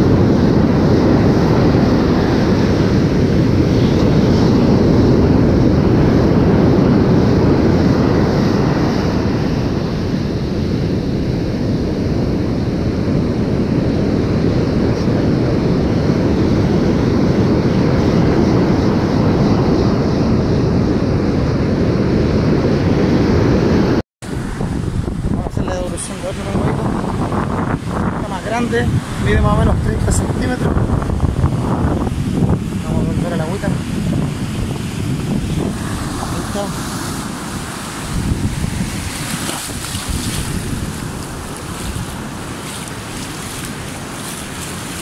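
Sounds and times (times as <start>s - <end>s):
surf breaking on shore: 0.0s - 20.6s, 22.1s - 45.0s
wind blowing across microphone: 0.0s - 45.0s.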